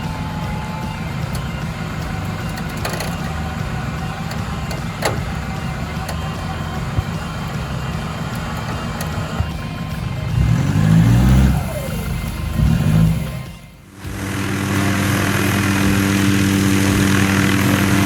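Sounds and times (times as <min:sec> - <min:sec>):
engine running at low revs: 0:00.0 - 0:18.0.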